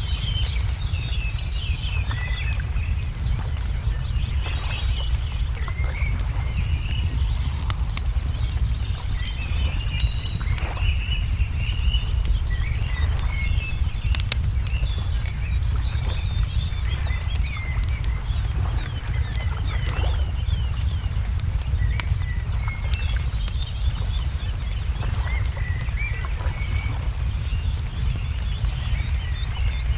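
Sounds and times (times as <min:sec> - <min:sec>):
low rumble: 0:00.0 - 0:29.9
songbirds chirping and singing: 0:00.0 - 0:29.9
wood fire crackling and popping: 0:00.0 - 0:29.9.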